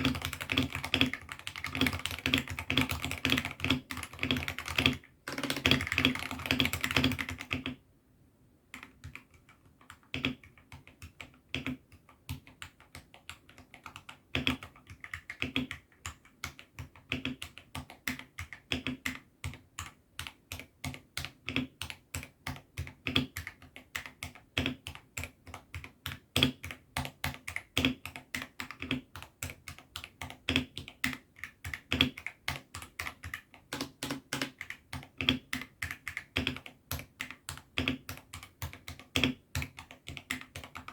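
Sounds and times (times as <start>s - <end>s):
mechanical keyboard typing: 0.0s - 7.8s, 8.7s - 40.9s.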